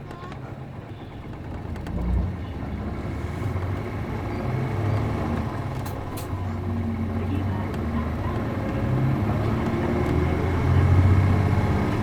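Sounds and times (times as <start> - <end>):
bus diesel engine pulling away: 0.2 - 12.0.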